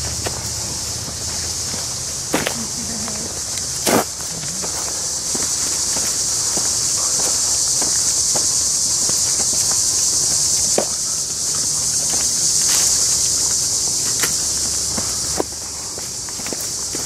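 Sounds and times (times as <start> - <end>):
footsteps crunching through leaf litter: 0.0 - 17.0
high-pitched insect chorus: 0.0 - 17.0.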